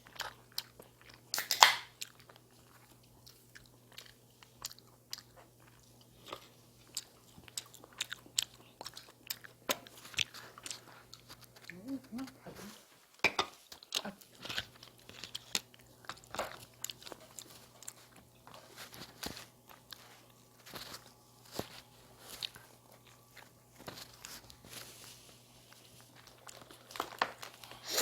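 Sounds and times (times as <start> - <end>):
crunching and wet chewing: 0.0 - 12.4, 13.6 - 28.0.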